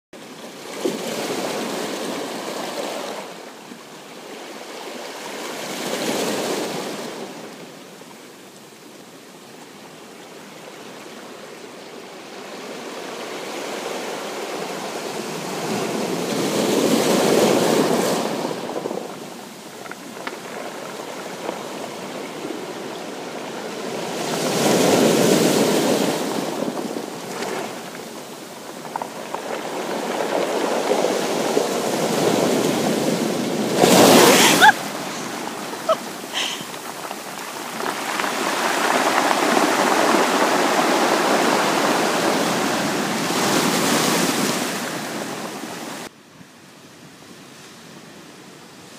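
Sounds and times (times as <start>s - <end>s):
waves washing over stones: 0.2s - 46.1s.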